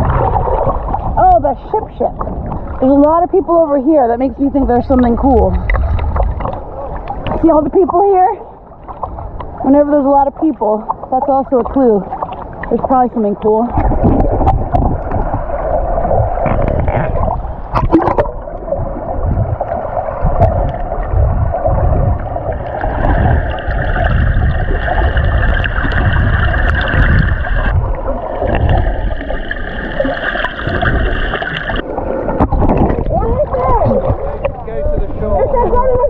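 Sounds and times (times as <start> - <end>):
water sloshing and gurgling: 0.0 - 36.0.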